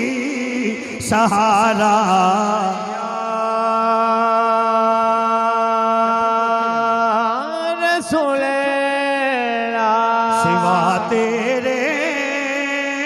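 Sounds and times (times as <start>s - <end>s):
man singing long notes: 0.0s - 13.0s.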